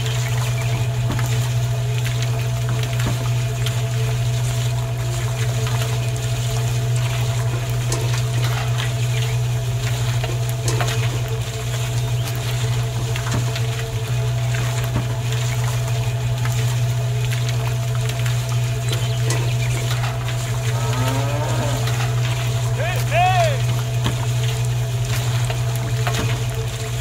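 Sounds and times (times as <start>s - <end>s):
juice trickling: 0.0s - 27.0s.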